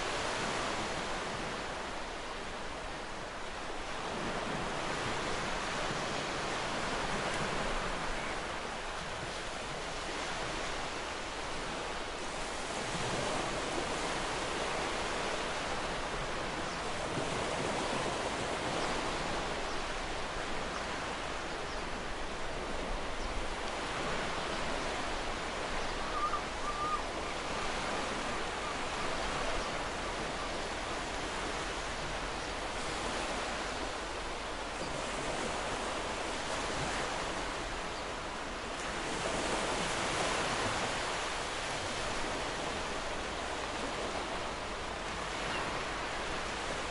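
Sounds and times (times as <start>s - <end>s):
ocean waves washing on shore: 0.0s - 46.9s.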